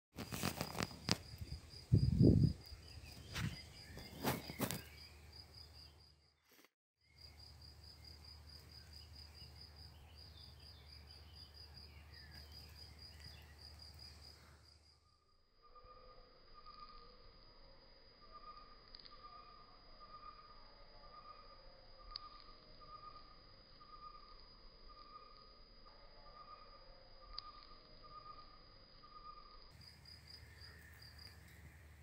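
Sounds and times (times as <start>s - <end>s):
insect chirping: 0.2s - 32.0s.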